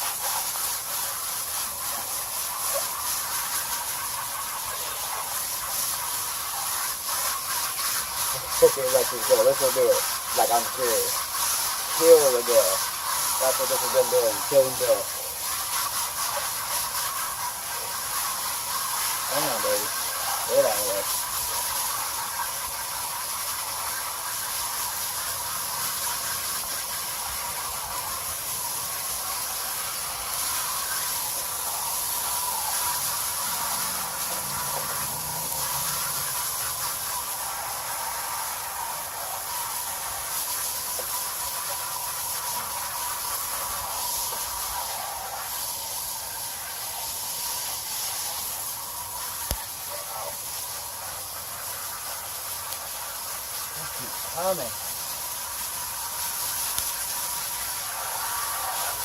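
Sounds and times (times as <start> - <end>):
garden hose spraying water: 0.0 - 59.0.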